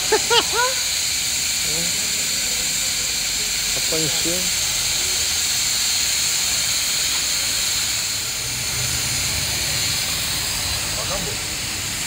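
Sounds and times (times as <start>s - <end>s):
pressurised gas hissing: 0.0s - 12.0s.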